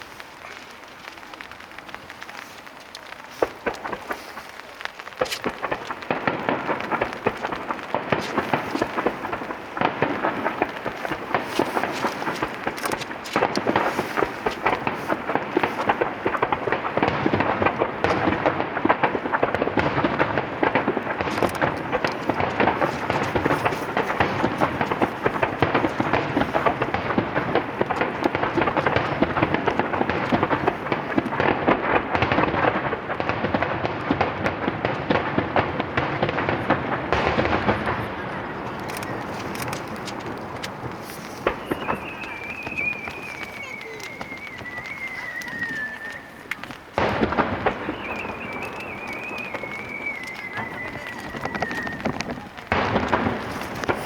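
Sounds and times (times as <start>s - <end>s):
fireworks bursting with booms and crackle: 0.0s - 54.0s.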